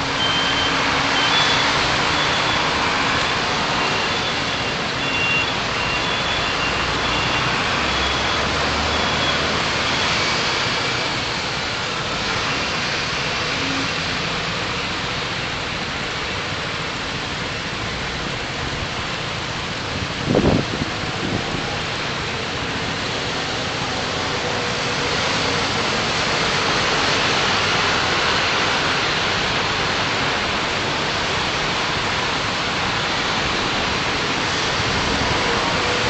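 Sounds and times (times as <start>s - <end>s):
city traffic road noise: 0.0s - 36.0s.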